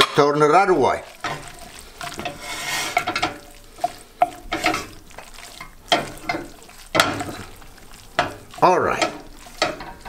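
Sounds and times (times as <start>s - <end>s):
wooden spoon scraping a pan: 0.0s - 10.0s.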